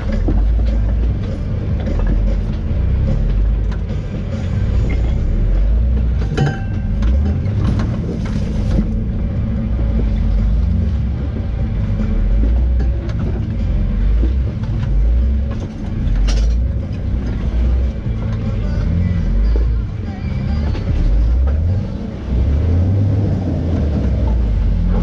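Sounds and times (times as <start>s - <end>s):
rocks and chassis knocking: 0.0s - 21.8s
off-road vehicle engine rumbling: 0.0s - 25.0s.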